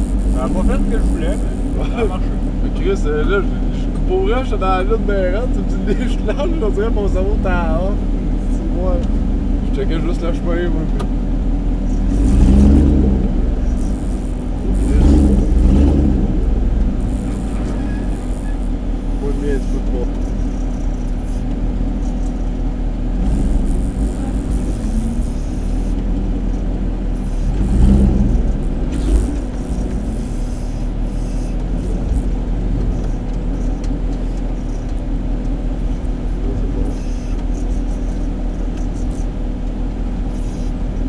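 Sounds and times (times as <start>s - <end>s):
off-road vehicle engine rumbling: 0.0s - 41.0s.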